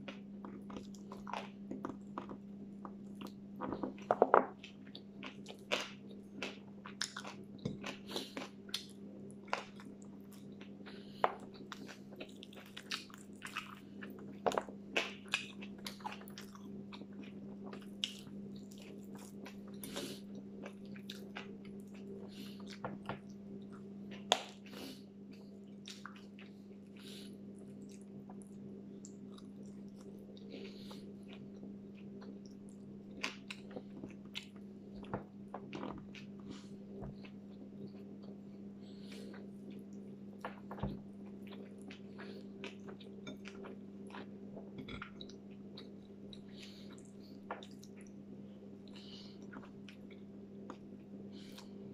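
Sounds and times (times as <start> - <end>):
mouth chewing and crunching: 0.0 - 51.9
steady low hum: 0.0 - 51.9.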